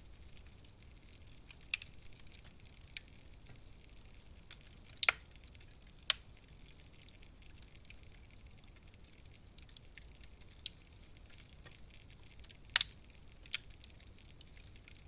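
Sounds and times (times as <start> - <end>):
low steady hiss: 0.0 - 15.0
wood fire crackling: 0.0 - 15.0.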